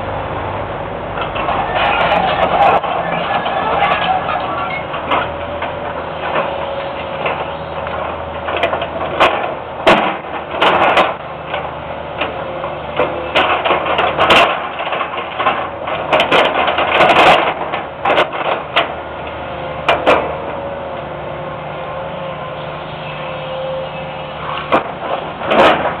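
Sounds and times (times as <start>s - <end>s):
diesel engine running with whine: 0.0s - 26.0s.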